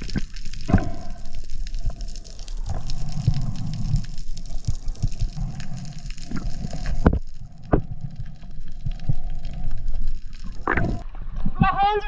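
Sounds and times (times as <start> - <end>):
underwater water rushing: 0.0 - 11.6.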